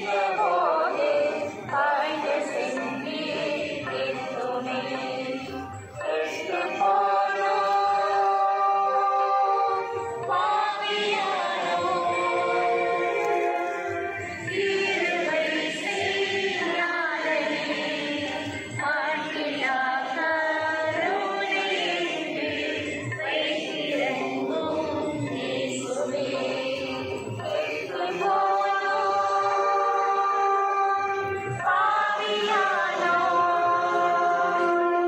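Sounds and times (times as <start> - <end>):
voices singing a hymn: 0.0 - 35.0.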